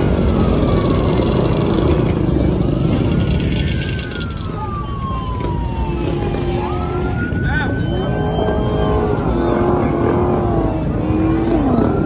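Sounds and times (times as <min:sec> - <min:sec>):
police siren wailing: 0:00.0 - 0:12.0
quad and dirt bike engines: 0:00.0 - 0:12.0.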